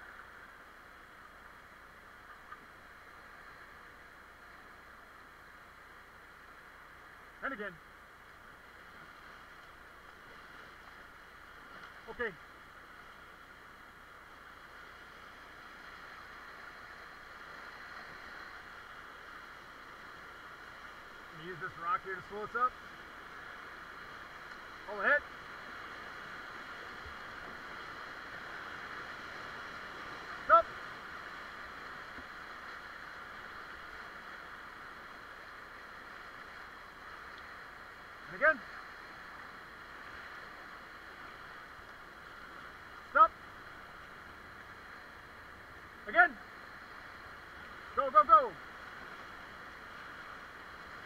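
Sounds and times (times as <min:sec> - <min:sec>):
river whitewater rushing: 0:00.0 - 0:51.0.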